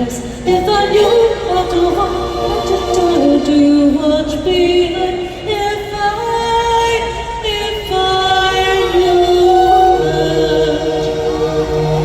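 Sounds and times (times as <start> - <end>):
choir singing held notes: 0.0 - 6.4, 7.0 - 12.0.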